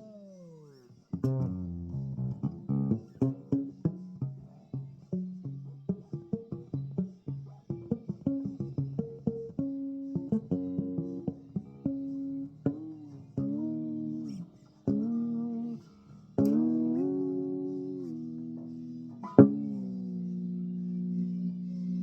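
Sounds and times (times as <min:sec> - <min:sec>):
bass guitar plucked notes: 0:00.0 - 0:22.0.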